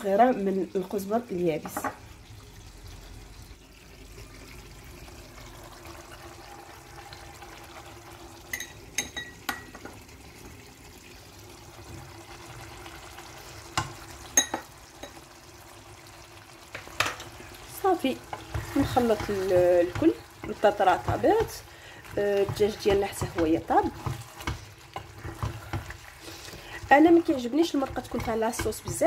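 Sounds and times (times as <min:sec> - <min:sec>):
pot simmering and bubbling: 0:00.0 - 0:29.0.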